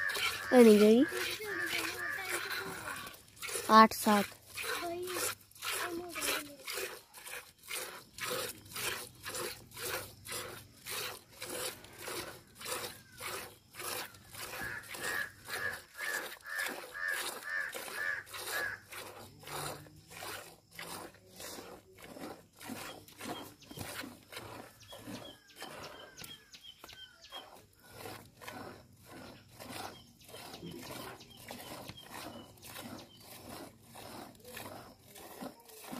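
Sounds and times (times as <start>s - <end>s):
milk squirting into a steel pail: 0.0s - 35.9s.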